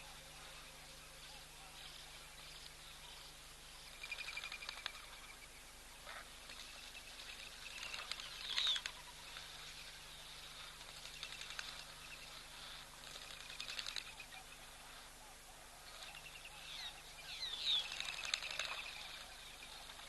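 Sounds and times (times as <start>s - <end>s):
faint low hum: 0.0s - 20.0s
small birds chirping: 0.0s - 20.0s.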